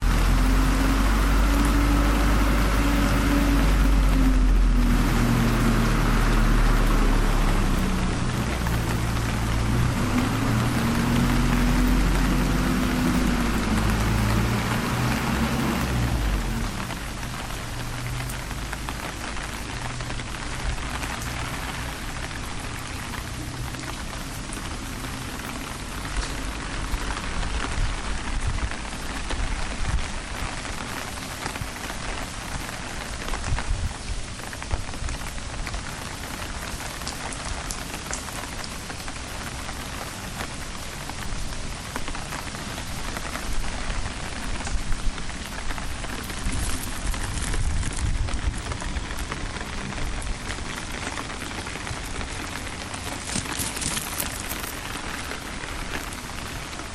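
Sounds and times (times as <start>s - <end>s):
sharp raindrop taps: 0.0s - 56.9s
steady rain hiss: 0.0s - 56.9s.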